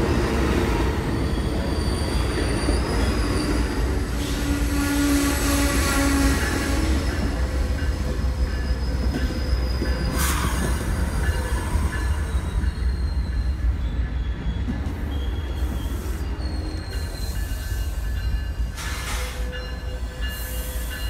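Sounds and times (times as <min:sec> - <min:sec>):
train cars rumbling past: 0:00.0 - 0:21.0
high wheel squeal: 0:01.1 - 0:06.8, 0:08.2 - 0:21.0.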